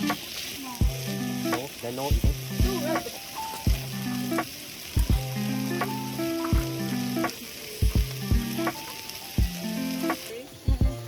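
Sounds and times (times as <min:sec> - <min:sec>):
food frying sizzle: 0:00.0 - 0:11.0
electronic music with kick drum: 0:00.8 - 0:03.1, 0:03.7 - 0:08.8, 0:09.4 - 0:11.0.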